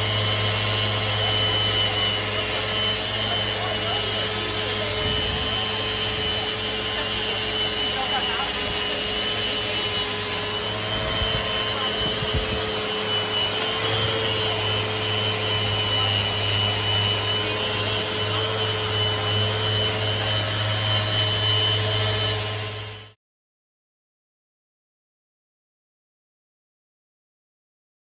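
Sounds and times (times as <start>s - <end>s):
orbital sander whining: 0.0s - 23.2s
vacuum drawing through hose: 0.0s - 23.2s.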